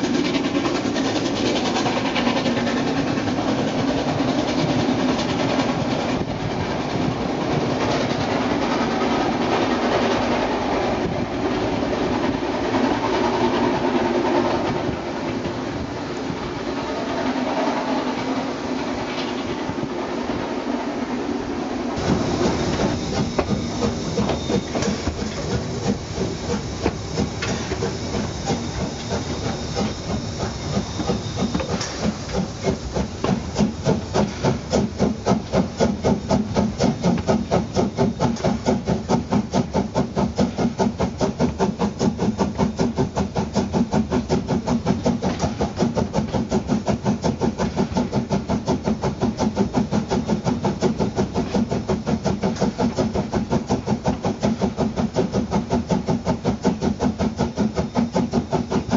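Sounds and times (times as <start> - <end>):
steam hiss: 0.0 - 58.9
steam locomotive exhaust beats: 0.0 - 58.9.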